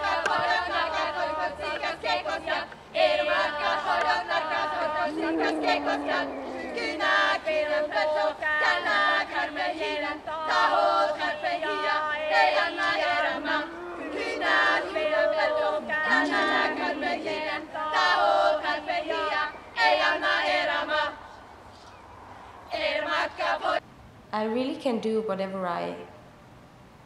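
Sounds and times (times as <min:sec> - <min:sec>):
group singing without instruments: 0:00.0 - 0:21.3, 0:22.7 - 0:23.8.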